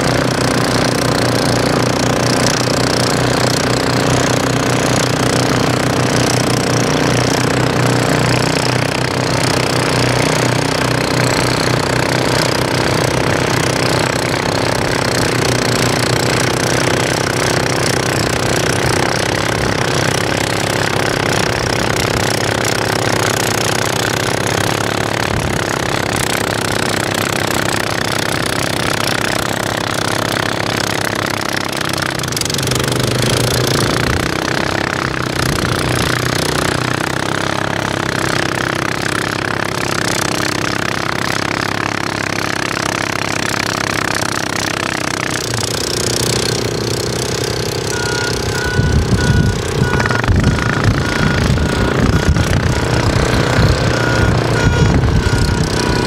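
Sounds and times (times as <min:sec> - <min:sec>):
atv engine with snowblower: 0:00.0 - 0:56.0.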